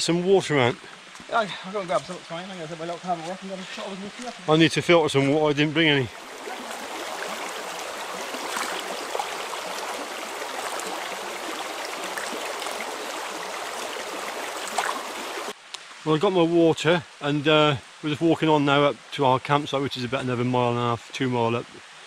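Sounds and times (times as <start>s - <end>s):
stream rushing over stones: 0.0s - 19.0s.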